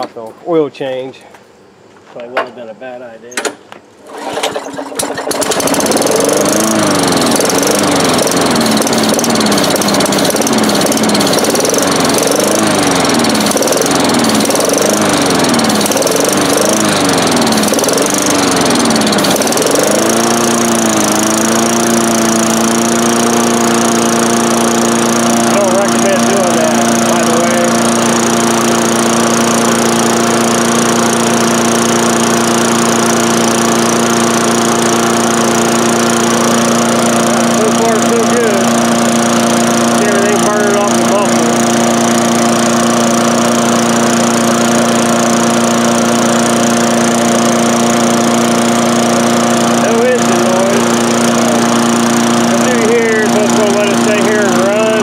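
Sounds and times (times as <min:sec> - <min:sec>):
lawn mower engine running: 0:03.9 - 0:55.0.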